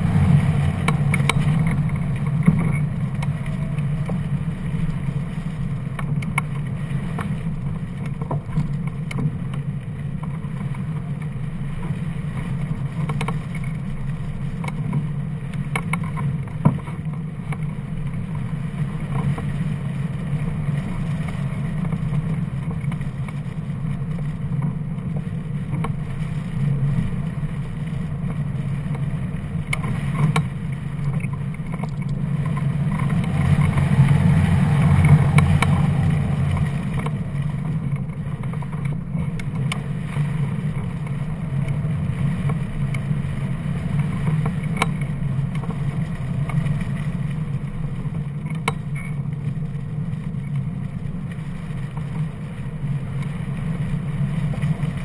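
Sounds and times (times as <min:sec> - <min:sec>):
low wind rumble: 0:00.0 - 0:55.0.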